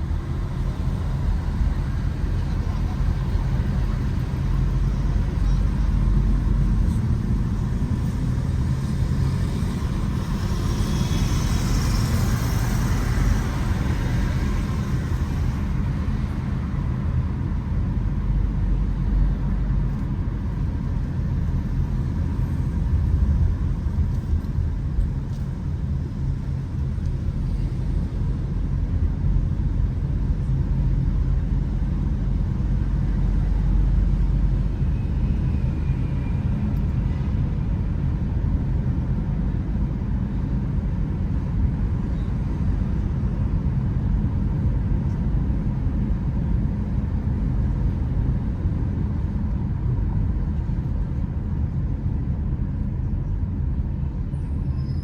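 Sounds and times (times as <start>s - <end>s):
car road and engine rumble: 0.0s - 55.0s
hissing rush of traffic: 0.0s - 55.0s.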